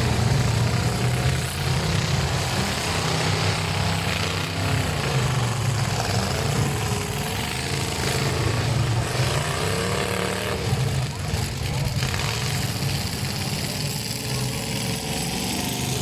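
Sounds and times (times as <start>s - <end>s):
truck engines droning: 0.0s - 16.0s.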